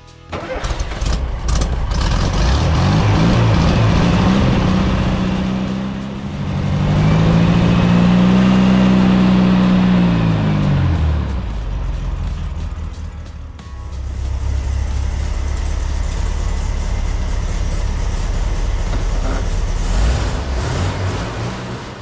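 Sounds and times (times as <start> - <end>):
car engine revving: 0.3 - 22.0.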